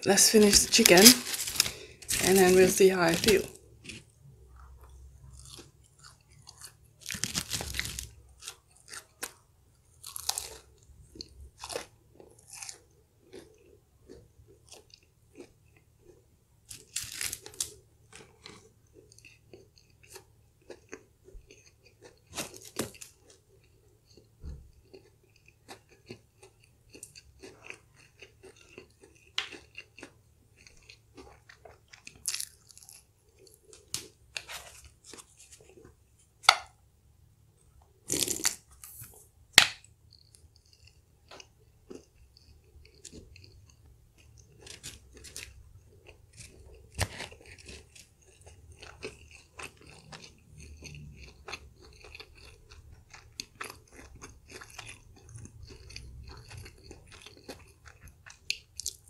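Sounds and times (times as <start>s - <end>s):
crunching on fried chicken: 0.3s - 36.7s, 38.1s - 59.0s.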